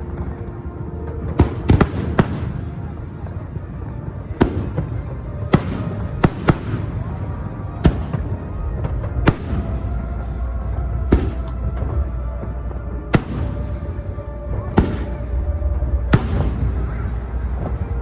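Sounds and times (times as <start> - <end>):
steady low rumble: 0.0 - 18.0
fireworks bangs: 0.9 - 18.0.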